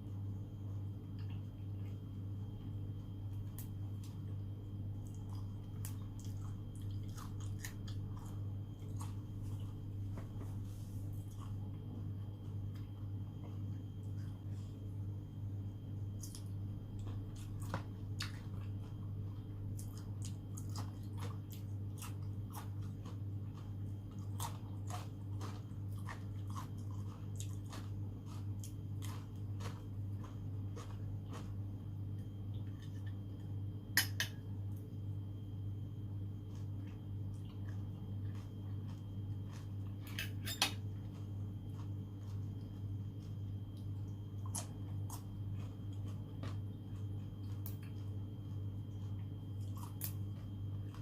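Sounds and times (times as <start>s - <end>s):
steady low hum: 0.0s - 51.0s
chewing with wet clicks: 2.9s - 10.0s, 16.1s - 35.1s, 35.8s - 51.0s.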